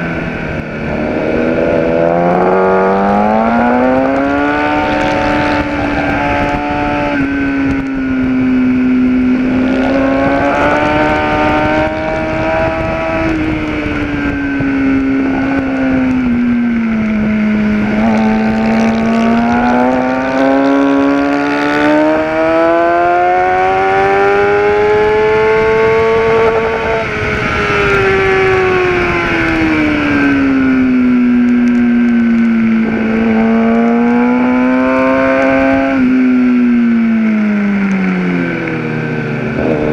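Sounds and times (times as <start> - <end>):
wind rush: 0.0 - 36.8, 38.5 - 39.9
motorcycle engine accelerating: 0.0 - 39.9.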